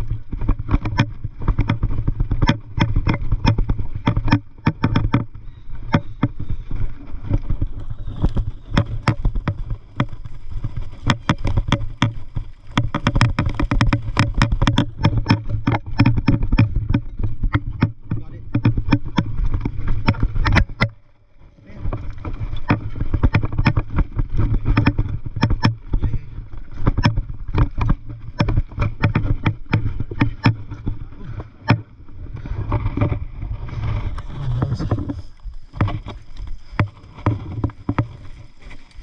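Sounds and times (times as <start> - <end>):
bike knocking and rattling: 0.0 - 39.0
wind rumble on microphone: 0.0 - 39.0.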